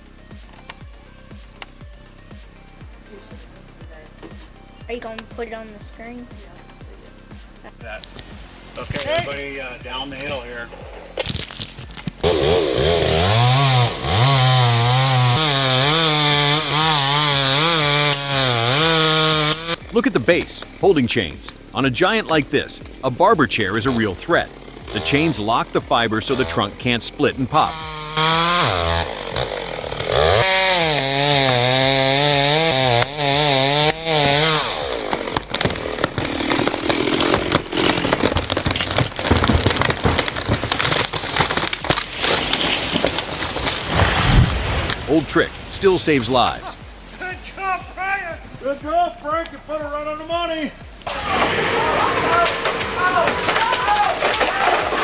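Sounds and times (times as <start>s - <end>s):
tree crackling and snapping: 0.0s - 47.7s, 48.5s - 55.0s
chainsaw cutting wood: 0.0s - 47.9s, 50.8s - 55.0s.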